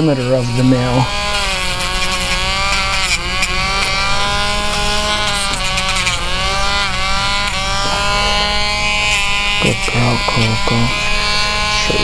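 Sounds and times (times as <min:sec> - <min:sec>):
pet nail grinder whining: 0:00.0 - 0:12.0.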